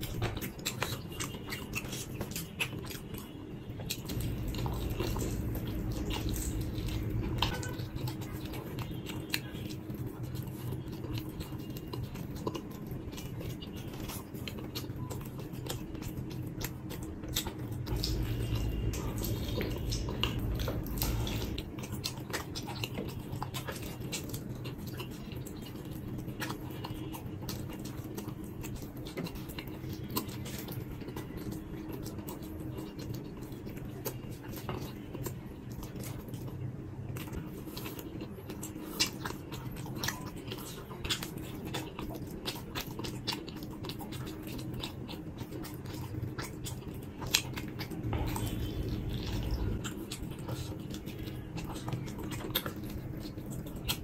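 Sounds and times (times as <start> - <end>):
wet chewing and biting: 0.0 - 54.0.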